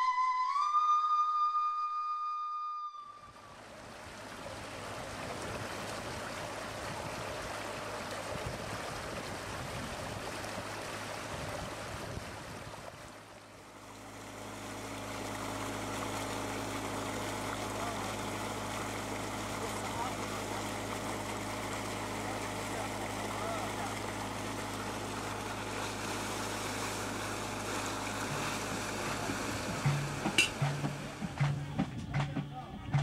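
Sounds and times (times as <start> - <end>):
pump engine hum: 3.1 - 33.0
water gushing from a pipe: 3.3 - 32.4.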